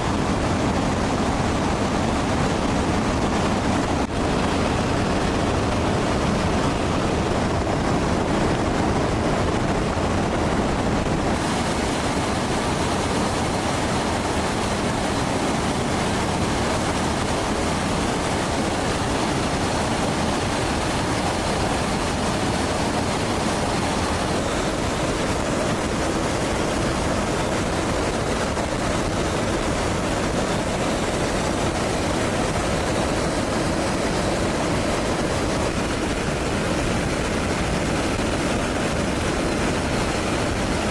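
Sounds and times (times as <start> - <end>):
aircraft engines roaring: 0.0 - 40.9.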